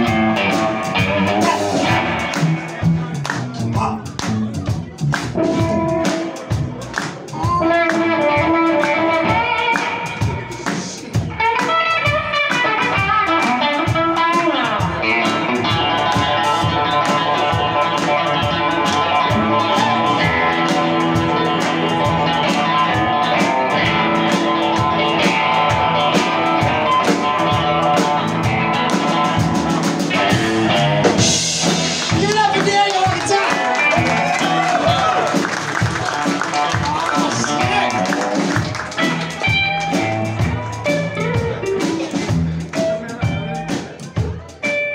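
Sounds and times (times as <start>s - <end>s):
drum kit beat: 0.0s - 44.9s
electric guitar lead: 0.0s - 44.9s
upright bass: 0.0s - 44.9s.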